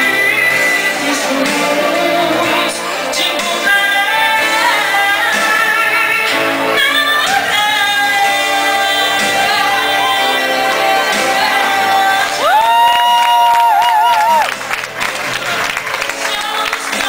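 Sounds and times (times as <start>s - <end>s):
woman singing karaoke: 0.0s - 13.6s, 16.1s - 17.0s
pop backing track: 0.0s - 17.0s.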